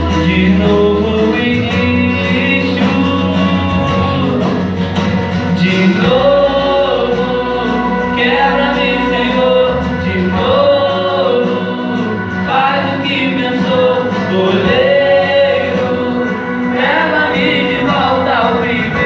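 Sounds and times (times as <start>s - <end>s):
vocal group singing gospel: 0.0s - 19.0s.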